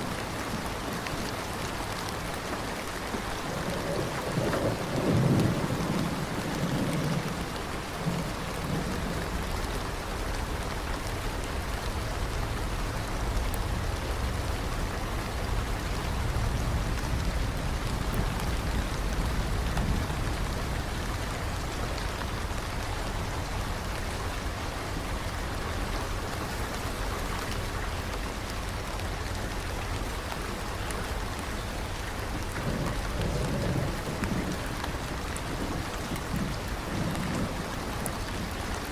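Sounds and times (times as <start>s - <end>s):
steady rain falling: 0.0s - 38.9s
thunder rumbling: 2.1s - 28.0s, 29.0s - 38.9s.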